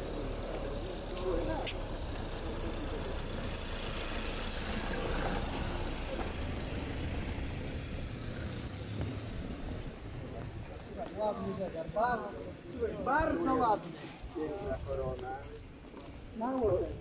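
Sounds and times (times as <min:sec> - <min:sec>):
faint indistinct voices: 0:00.0 - 0:17.0.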